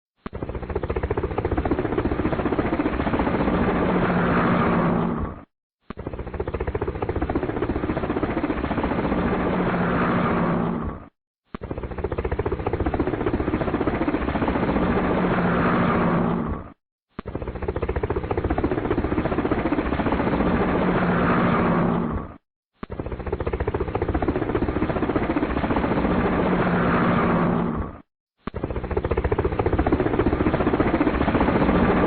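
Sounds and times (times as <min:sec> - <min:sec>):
helicopter engine drone: 0:00.2 - 0:32.0
helicopter rotor chop: 0:00.2 - 0:32.0.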